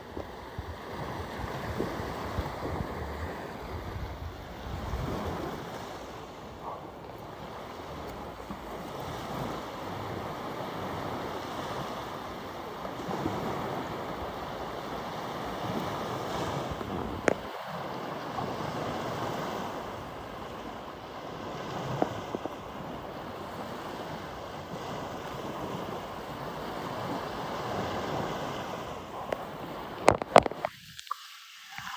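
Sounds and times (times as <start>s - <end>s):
wind rumbling on microphone: 0.0s - 31.0s
sea surf washing onto beach: 0.0s - 31.9s.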